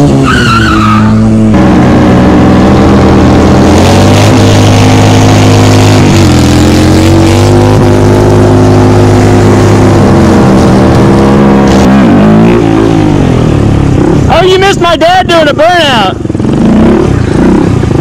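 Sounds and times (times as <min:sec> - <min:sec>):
motorcycle engine running: 0:01.0 - 0:18.0.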